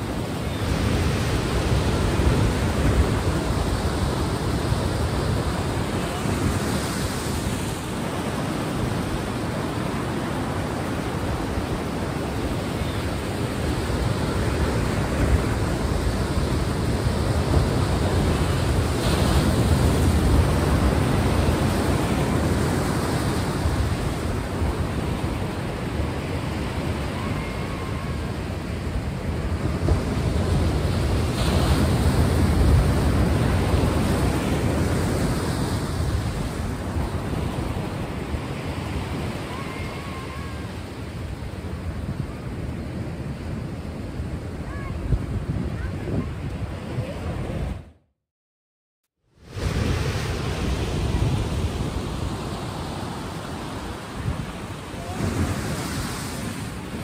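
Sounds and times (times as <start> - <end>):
ocean waves washing in: 0.0 - 47.9, 49.3 - 57.0.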